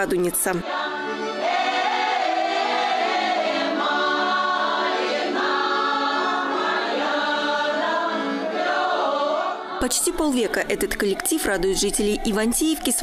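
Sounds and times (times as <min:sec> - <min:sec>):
women's choir singing folk song: 0:00.3 - 0:13.0.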